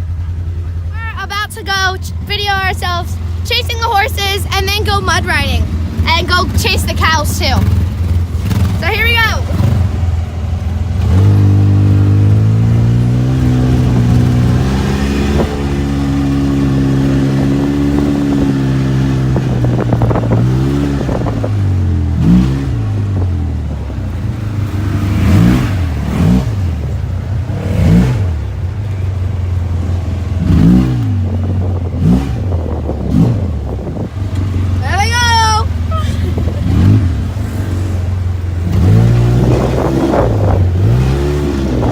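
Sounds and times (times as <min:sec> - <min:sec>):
side-by-side vehicle engine revving: 0:00.0 - 0:41.9.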